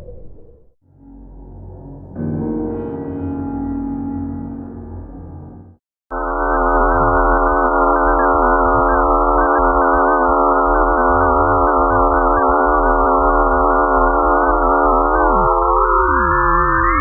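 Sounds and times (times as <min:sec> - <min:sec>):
synthesized space drone: 0:00.9 - 0:17.0.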